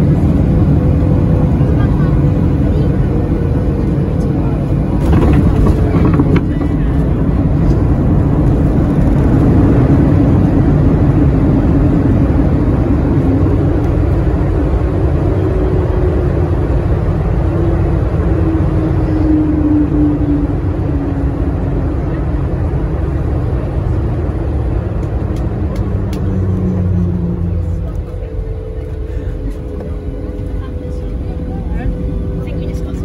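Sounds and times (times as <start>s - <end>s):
jet engine cabin rumble: 0.0s - 33.0s.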